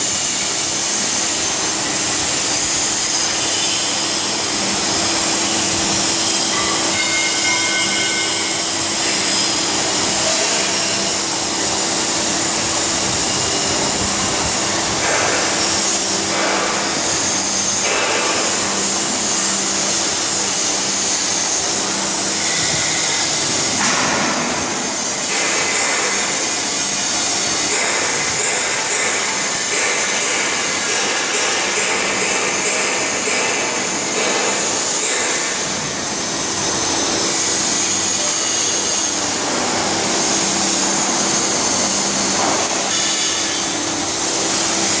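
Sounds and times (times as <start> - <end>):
loud continuous hiss: 0.0 - 45.0.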